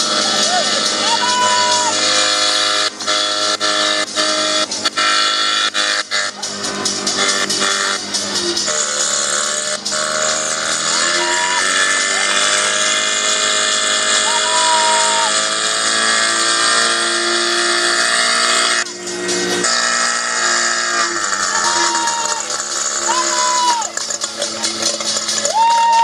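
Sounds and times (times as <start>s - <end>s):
pump engine running: 0.0s - 26.0s.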